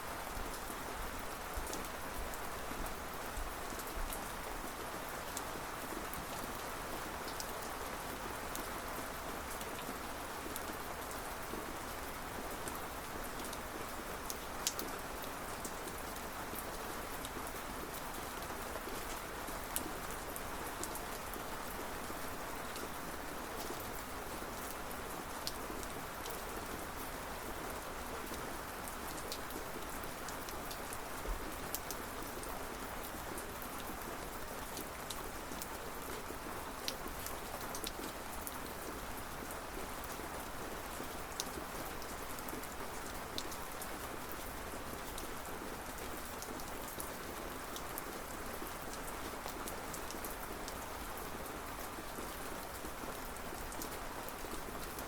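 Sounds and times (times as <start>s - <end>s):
raindrops ticking on a surface: 0.3s - 55.0s.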